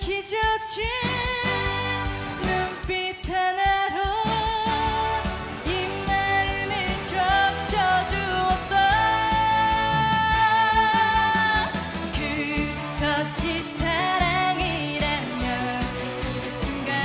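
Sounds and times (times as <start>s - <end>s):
steady drum beat: 0.0s - 17.0s
woman singing with vibrato: 0.0s - 17.0s.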